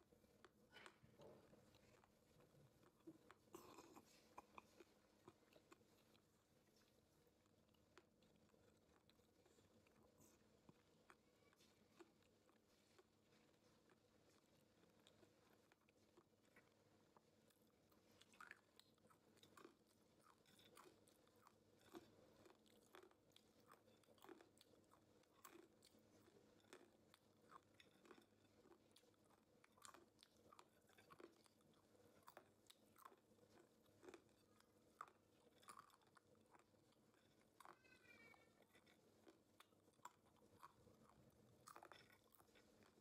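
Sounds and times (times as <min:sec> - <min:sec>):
person chewing crunchy food: 0:00.0 - 0:43.0.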